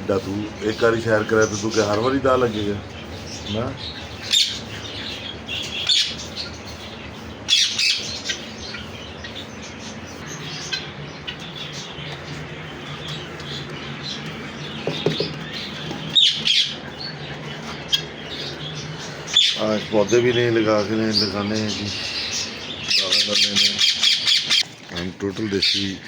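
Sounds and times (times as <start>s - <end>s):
parrots squawking and chirping: 0.0s - 26.0s.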